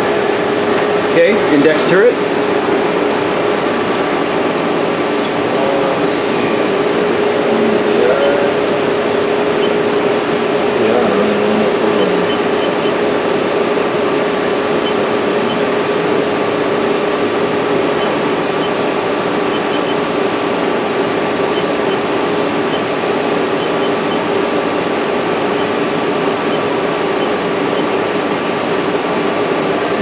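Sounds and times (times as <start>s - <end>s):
lathe machine hum and whir: 0.0s - 30.0s.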